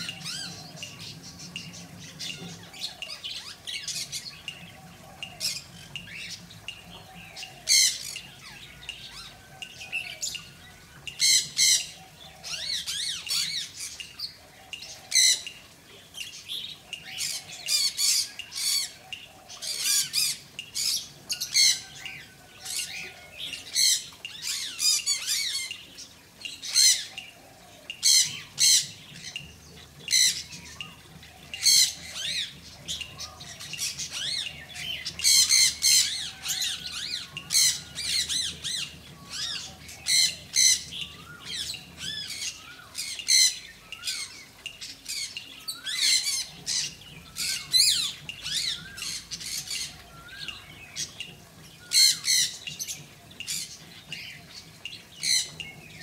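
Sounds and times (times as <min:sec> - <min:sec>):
birds squawking and chattering: 0:00.0 - 0:56.0.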